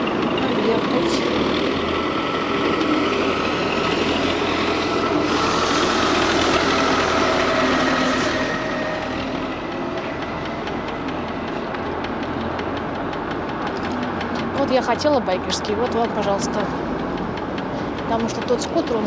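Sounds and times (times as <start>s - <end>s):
electric scooter whine: 0.0s - 19.0s
wind and tyre noise: 0.0s - 19.0s.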